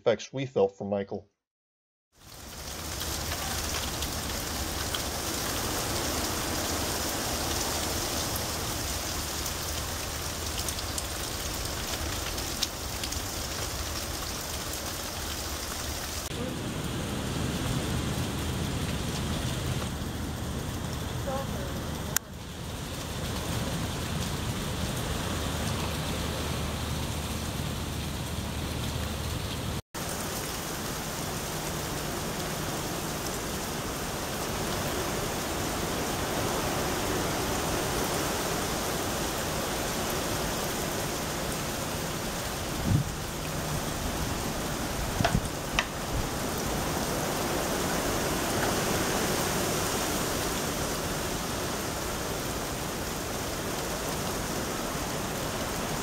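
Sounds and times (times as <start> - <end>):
steady rain hissing: 2.2 - 56.0.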